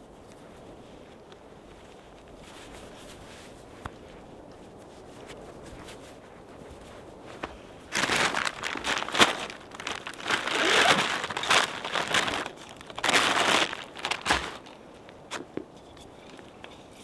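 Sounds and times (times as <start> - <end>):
clothing rustling and crinkling: 0.0 - 16.6.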